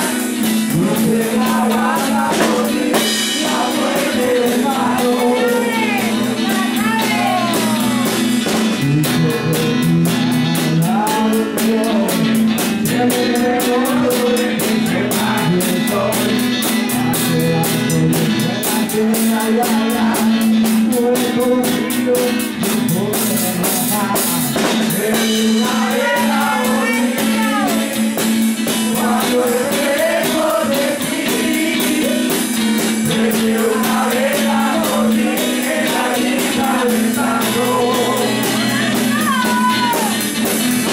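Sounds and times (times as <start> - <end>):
acoustic guitar strummed: 0.0 - 40.9
drums and cymbal beat: 0.0 - 40.9
person singing: 0.0 - 40.9.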